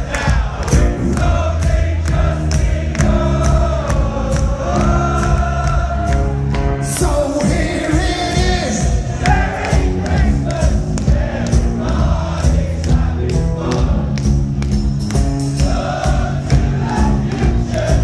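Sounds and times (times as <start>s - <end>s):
crowd singing along: 0.0s - 14.7s, 15.3s - 18.0s
live rock band playing: 0.3s - 18.0s.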